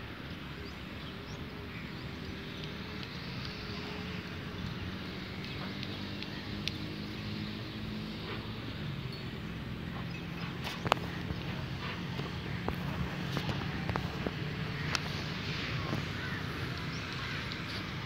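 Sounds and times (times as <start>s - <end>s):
distant motor hum: 1.5s - 18.0s.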